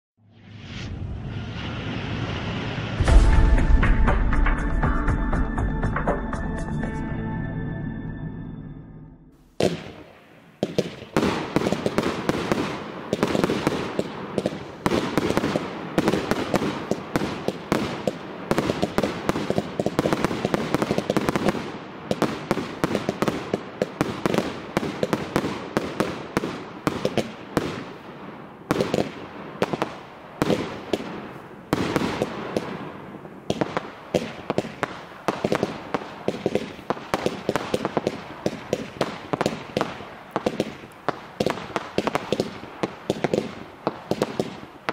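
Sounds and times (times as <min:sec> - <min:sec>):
fireworks bursting and crackling: 0:00.4 - 0:04.7, 0:09.3 - 0:44.9.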